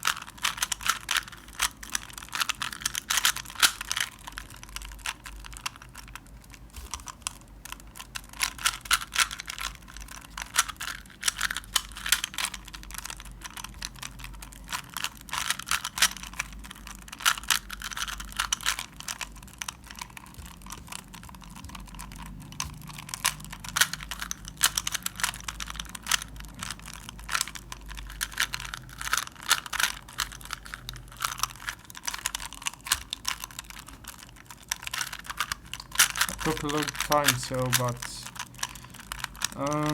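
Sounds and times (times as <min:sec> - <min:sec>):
puzzle cube clicking as turned: 0:00.0 - 0:39.9.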